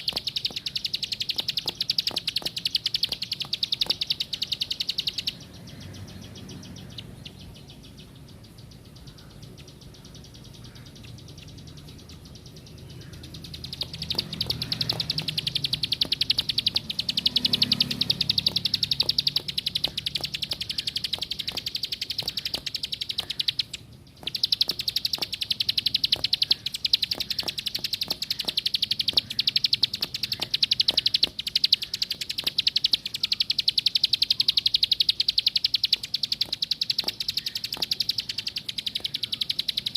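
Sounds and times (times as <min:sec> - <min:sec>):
bird singing rattling notes: 0:00.0 - 0:39.9.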